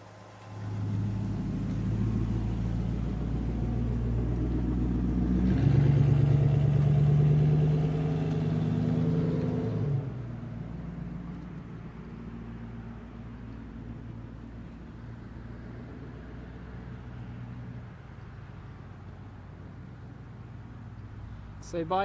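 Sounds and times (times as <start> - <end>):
car engine pulling away: 0.0 - 21.8.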